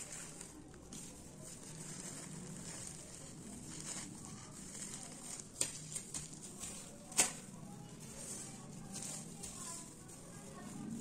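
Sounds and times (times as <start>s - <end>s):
plastic crinkling and rustling: 0.0s - 11.0s.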